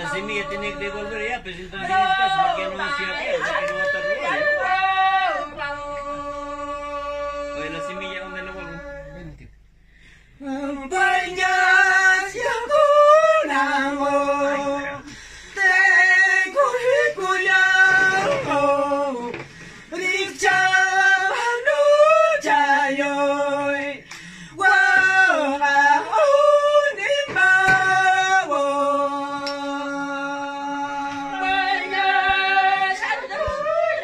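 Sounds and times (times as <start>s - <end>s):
women singing unaccompanied: 0.0s - 9.3s, 10.4s - 34.0s.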